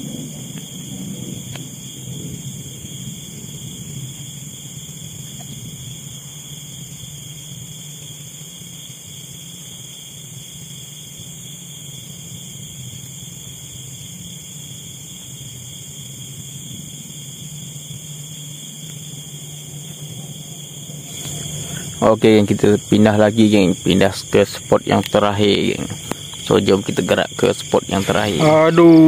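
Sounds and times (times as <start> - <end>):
night insects chorus: 0.0 - 29.0.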